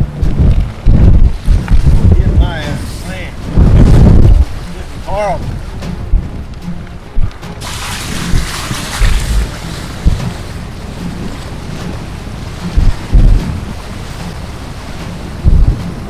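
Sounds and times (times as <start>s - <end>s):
storm wind blowing: 0.0s - 16.0s
wind buffeting thumps: 0.0s - 16.0s.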